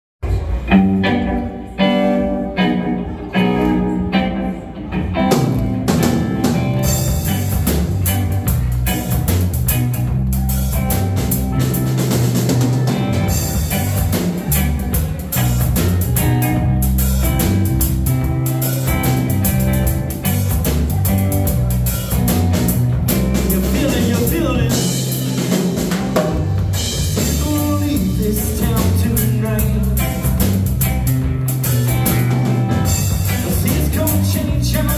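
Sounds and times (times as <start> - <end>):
rock band playing: 0.2 - 34.9.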